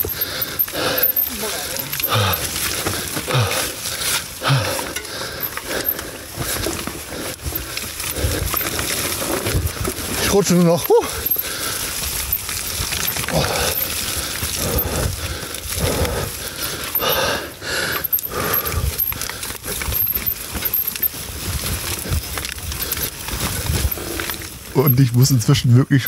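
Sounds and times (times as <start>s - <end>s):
bike chain and frame rattling: 0.0s - 26.0s
tyres sliding through mud: 0.0s - 26.0s.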